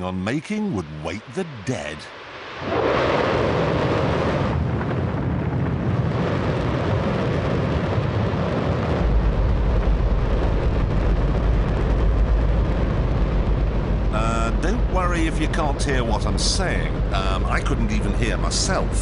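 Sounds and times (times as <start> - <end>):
rocket engine roaring: 0.7 - 19.0
deep rumble: 2.4 - 19.0.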